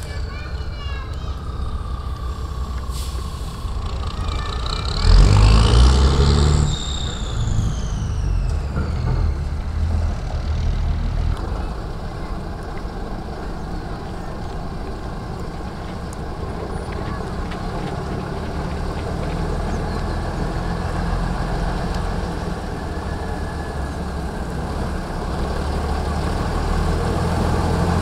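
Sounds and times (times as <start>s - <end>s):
diesel truck accelerating: 0.0s - 28.0s
engine whine: 0.0s - 28.0s.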